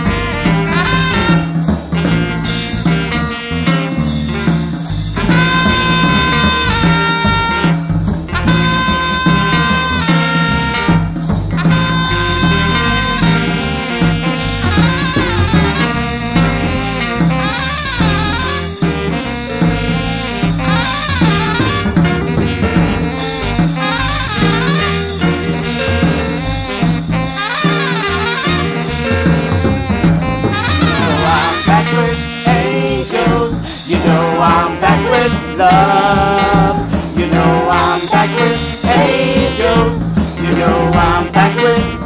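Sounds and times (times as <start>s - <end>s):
drums: 0.0s - 42.0s
horns and saxophone playing: 0.0s - 42.0s
steady bass: 0.0s - 42.0s.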